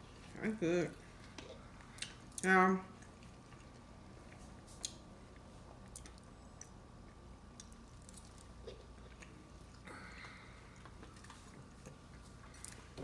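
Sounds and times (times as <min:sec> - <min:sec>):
soft chewing: 0:01.0 - 0:13.0.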